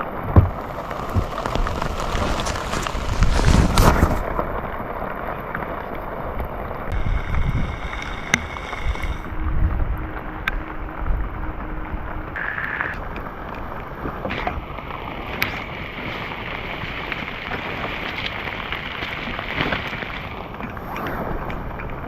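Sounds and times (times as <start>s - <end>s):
rain: 0.0s - 22.0s
wind gusts rumbling on microphone: 0.0s - 22.0s.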